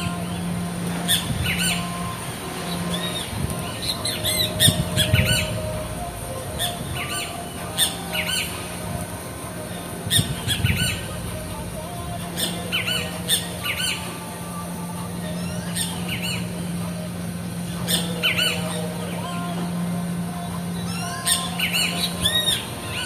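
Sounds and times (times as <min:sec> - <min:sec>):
birds squawking: 0:00.0 - 0:23.0
low rumbles: 0:00.0 - 0:23.0
steady low hum: 0:00.0 - 0:23.0.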